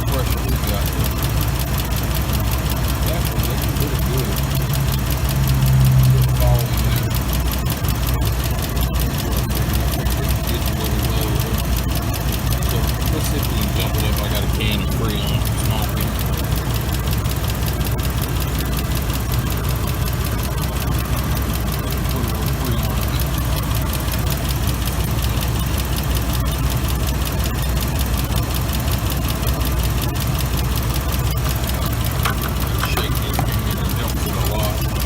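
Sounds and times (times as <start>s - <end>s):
air conditioning running: 0.0s - 35.0s
truck engine idling: 0.0s - 35.0s.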